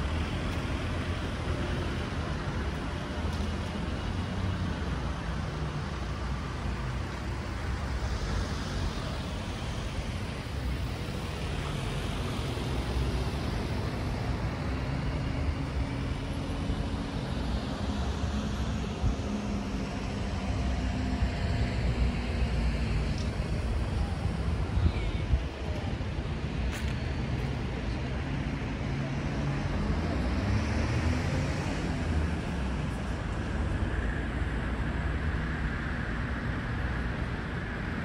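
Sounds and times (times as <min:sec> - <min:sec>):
vehicles passing: 0:00.0 - 0:38.0.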